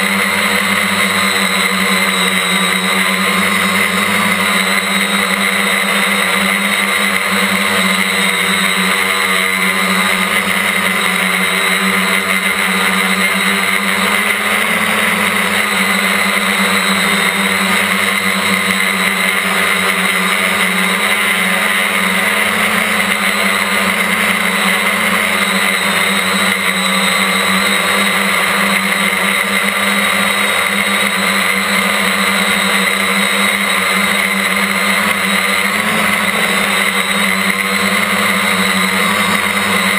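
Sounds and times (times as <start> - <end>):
quadcopter motors buzzing and whining: 0.0 - 39.9.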